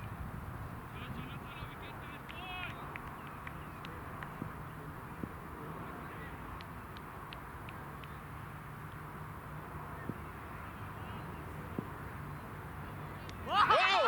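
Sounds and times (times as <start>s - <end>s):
distant voices: 0.0s - 14.0s
birds chattering and chipping: 0.9s - 13.5s.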